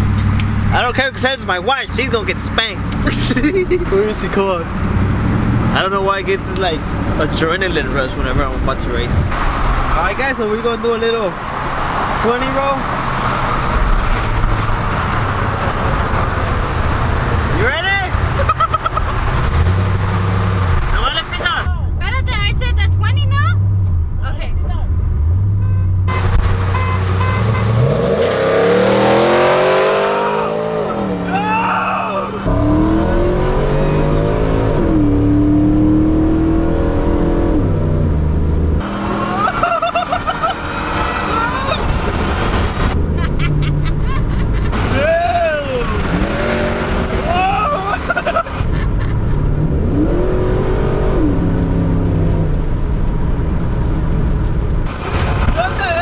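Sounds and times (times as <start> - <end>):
truck engine at full throttle: 0.0 - 21.7, 26.1 - 56.0.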